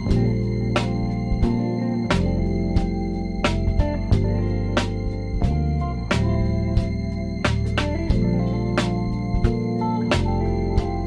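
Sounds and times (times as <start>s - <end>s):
regular beat with sharp strikes: 0.0s - 11.0s.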